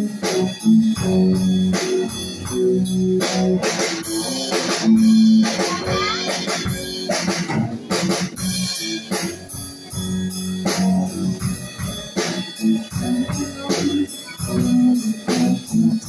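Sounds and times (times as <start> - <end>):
drum kit steady beat: 0.0 - 16.0
electric guitar chords: 0.0 - 16.0.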